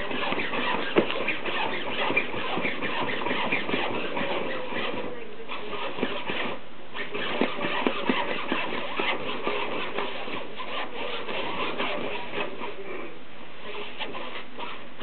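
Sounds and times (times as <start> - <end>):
scratchy fabric rustle: 0.0 - 15.0.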